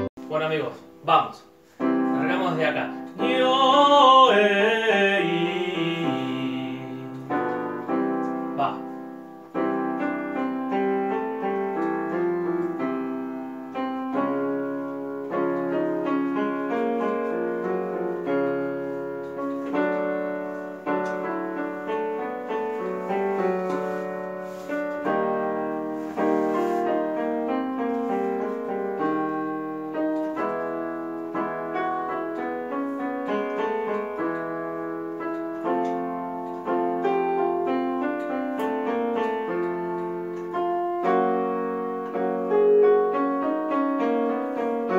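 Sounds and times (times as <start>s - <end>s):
piano keyboard scale exercise: 0.0s - 44.9s.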